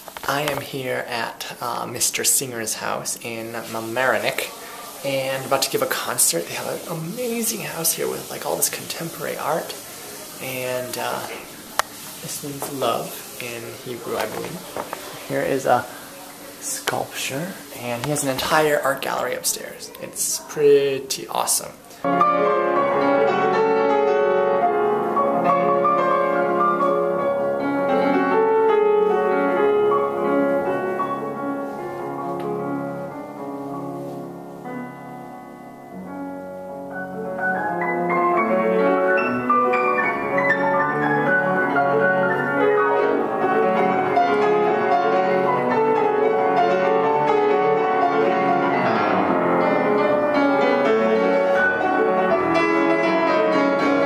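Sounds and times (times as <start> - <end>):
solo piano classical music: 0.0 - 54.0.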